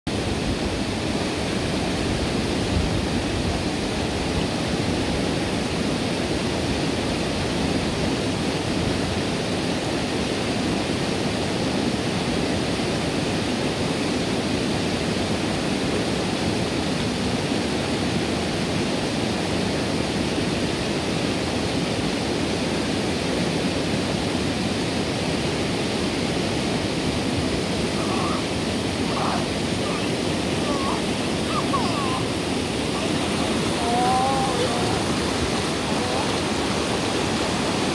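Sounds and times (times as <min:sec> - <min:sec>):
river water rushing over stones: 0:00.1 - 0:37.9.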